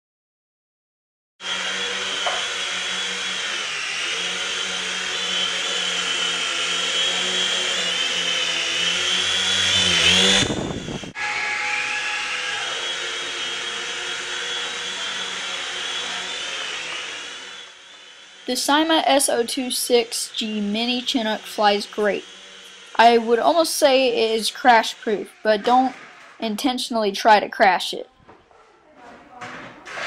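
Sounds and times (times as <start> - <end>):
toy helicopter motor whine: 1.4 - 27.4.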